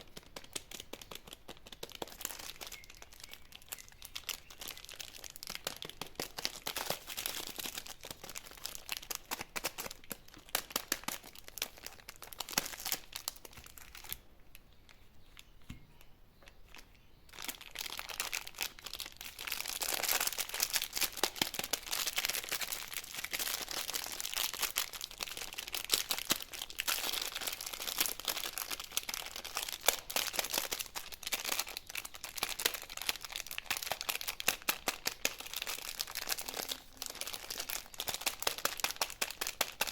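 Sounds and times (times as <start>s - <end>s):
candy wrappers crinkling: 0.0s - 15.5s, 16.5s - 39.9s.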